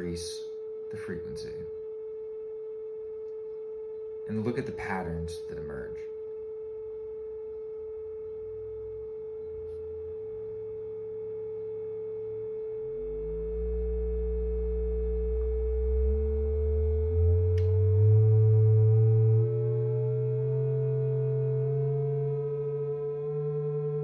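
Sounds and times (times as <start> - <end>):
steady sine tone: 0.0 - 24.0.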